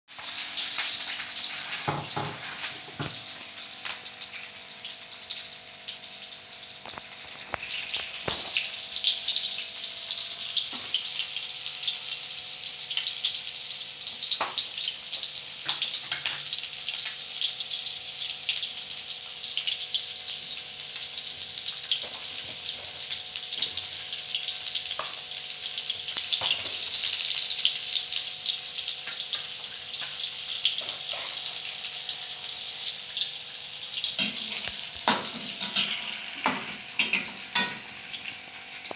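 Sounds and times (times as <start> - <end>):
food sizzling in oil: 0.1 - 38.9.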